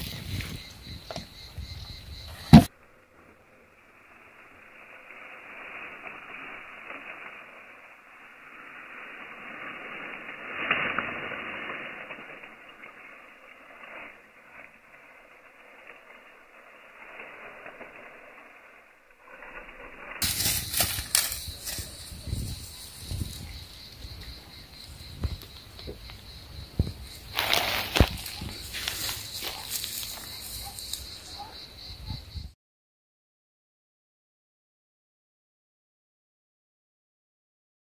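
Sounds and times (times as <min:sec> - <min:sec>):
dry stalks crackling: 0:00.0 - 0:31.6
dry grass rustling: 0:00.0 - 0:31.9.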